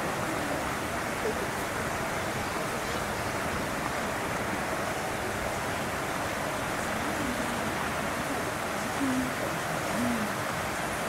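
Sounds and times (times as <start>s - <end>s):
faint distant voices: 0.0s - 10.5s
outdoor background hiss: 0.0s - 11.0s.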